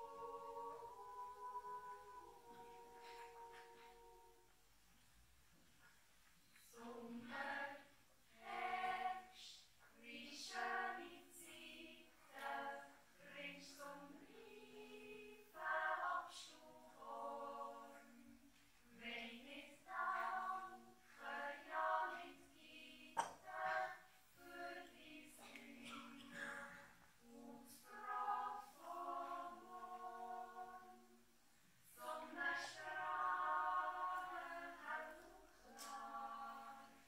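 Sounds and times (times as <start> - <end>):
choir yodelling a cappella: 0.0 - 4.4, 6.7 - 31.2, 32.0 - 37.0.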